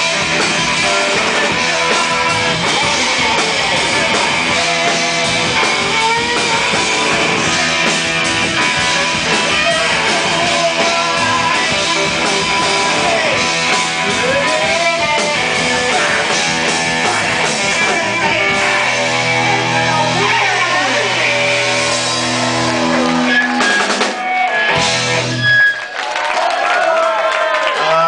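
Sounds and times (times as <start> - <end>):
punk rock band playing: 0.0 - 25.8
electric guitar: 0.0 - 25.9.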